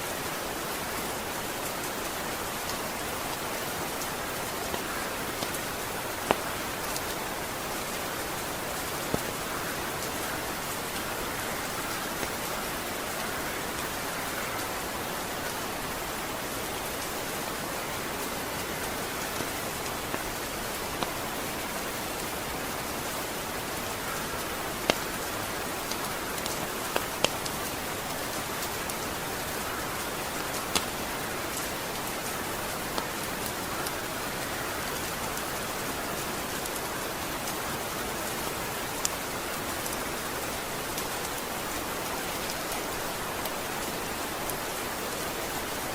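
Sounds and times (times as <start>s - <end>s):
rain hissing on a surface: 0.0s - 45.9s.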